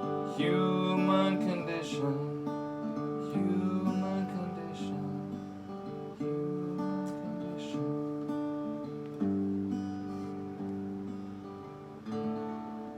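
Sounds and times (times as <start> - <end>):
acoustic guitar strumming chords: 0.0 - 12.9.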